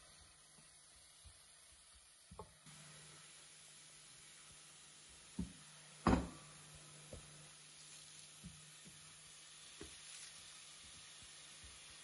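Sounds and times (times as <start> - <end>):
faint frying sizzle: 0.0 - 12.0.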